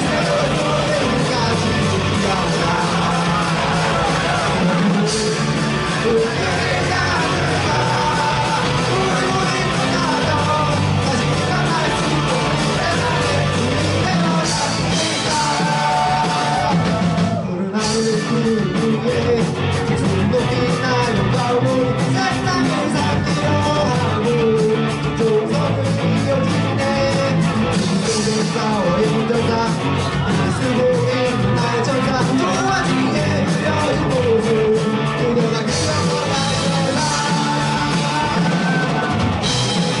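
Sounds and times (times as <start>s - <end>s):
fast steady drum beat: 0.0s - 40.0s
live punk rock band: 0.0s - 40.0s.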